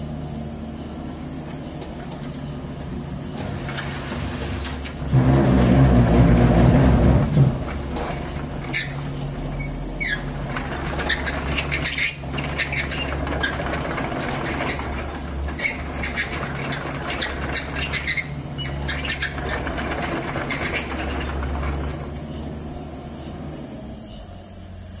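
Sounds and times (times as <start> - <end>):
excavator diesel engine running: 0.0 - 25.0
high squeaks from excavator arm: 1.5 - 24.7.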